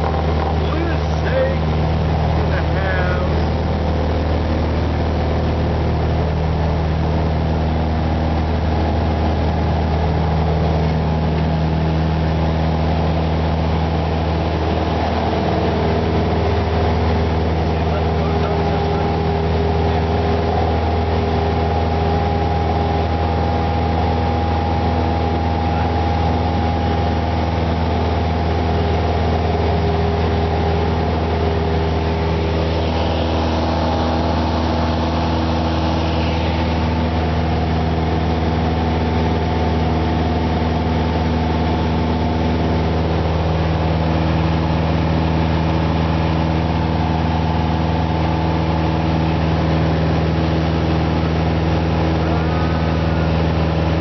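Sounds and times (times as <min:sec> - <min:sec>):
airplane engine and propeller drone: 0:00.0 - 0:54.0.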